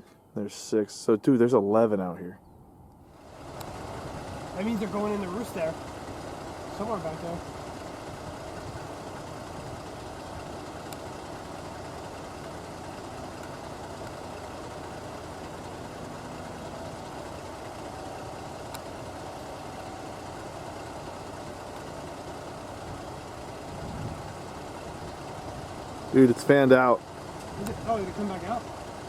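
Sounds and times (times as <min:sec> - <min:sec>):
vehicle engine idling: 0:02.9 - 0:29.0.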